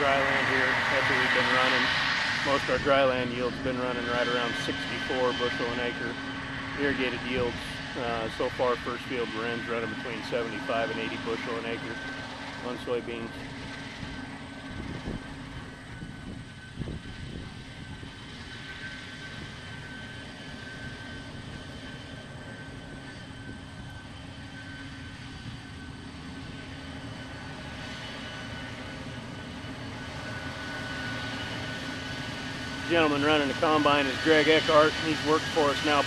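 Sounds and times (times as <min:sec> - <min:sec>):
combine harvester drone: 0:00.0 - 0:36.0
high mechanical whine: 0:00.0 - 0:36.0.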